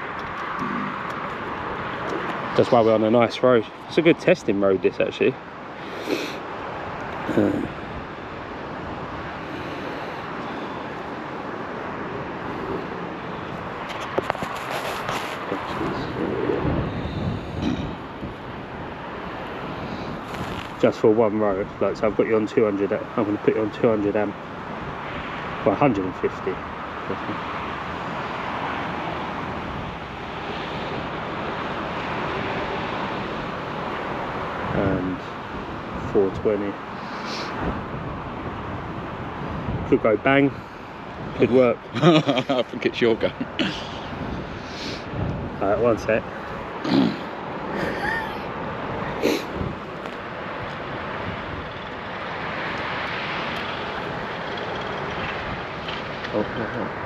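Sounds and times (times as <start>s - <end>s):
traffic hiss: 0.0s - 8.3s, 9.2s - 57.0s
wind: 0.0s - 57.0s.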